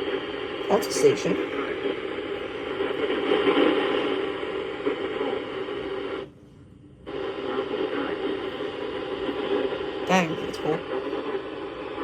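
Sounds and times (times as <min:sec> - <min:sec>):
radio static and hiss: 0:00.0 - 0:06.4, 0:07.0 - 0:12.0
faint radio broadcast: 0:00.0 - 0:12.0.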